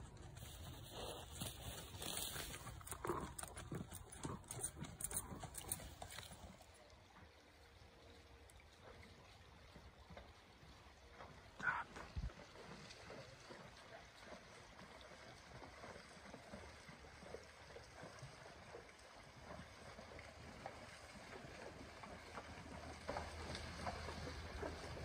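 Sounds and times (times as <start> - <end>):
horses splashing through water: 0.0 - 25.0.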